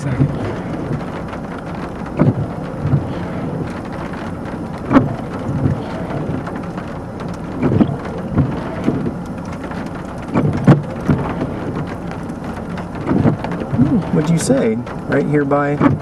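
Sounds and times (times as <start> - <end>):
low thumps: 0.0 - 16.0
wind and rain rushing: 0.0 - 16.0.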